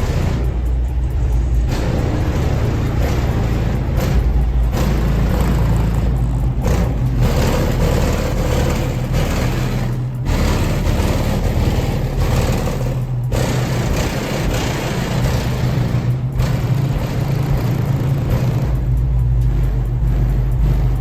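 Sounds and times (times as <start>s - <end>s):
rap music with booming bass: 0.0s - 21.0s.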